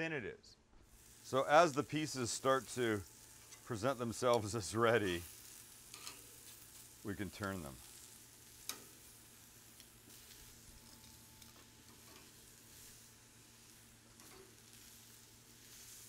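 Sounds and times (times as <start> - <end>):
chicken sizzling on grill: 0.8 - 16.0.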